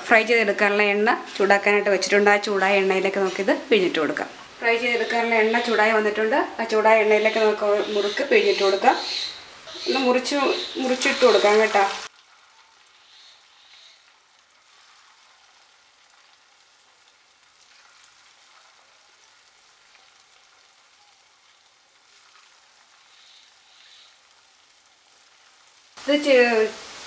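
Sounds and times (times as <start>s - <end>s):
dough frying in hot oil: 0.0s - 27.0s.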